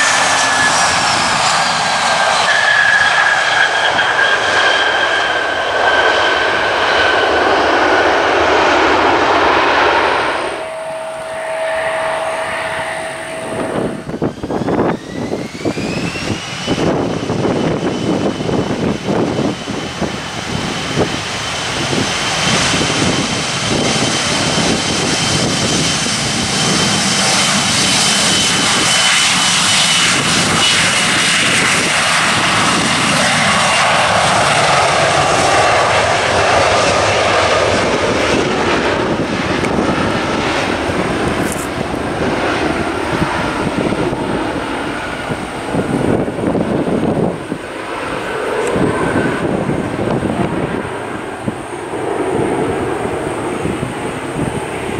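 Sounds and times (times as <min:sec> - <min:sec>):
jet engines whining: 0:00.0 - 0:54.9
jet roar: 0:00.0 - 0:54.9.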